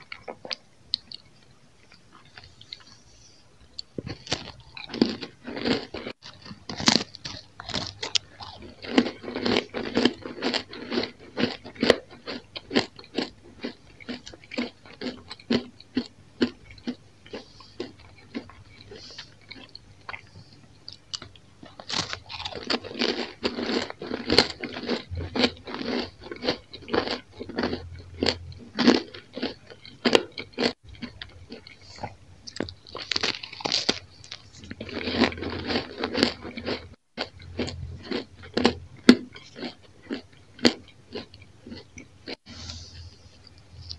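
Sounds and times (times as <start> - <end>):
soft chewing: 0.0 - 43.9
crunching bread crisps: 3.9 - 20.3, 20.9 - 42.4.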